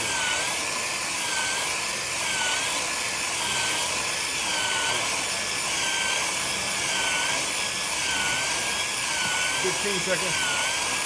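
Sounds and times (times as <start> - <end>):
machine whine: 0.0 - 11.0.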